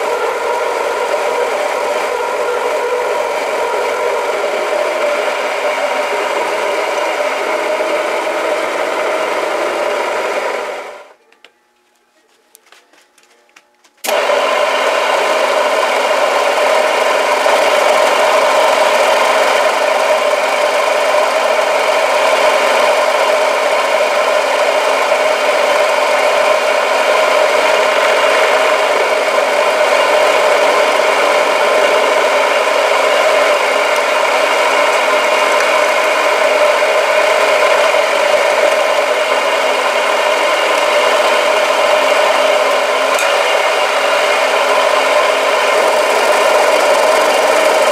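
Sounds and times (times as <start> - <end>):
milling machine cutting metal: 0.0 - 11.1, 14.1 - 47.9.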